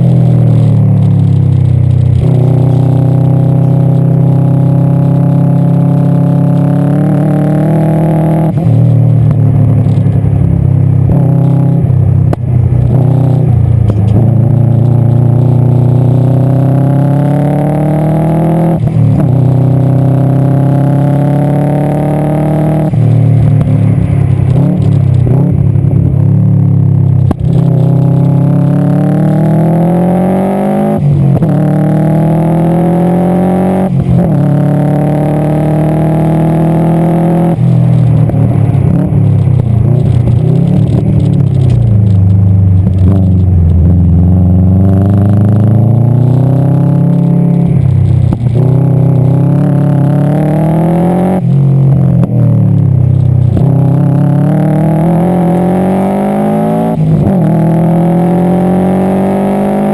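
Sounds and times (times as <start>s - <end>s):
car engine accelerating through gears: 0.0s - 59.9s
exhaust crackles and pops: 0.0s - 59.9s.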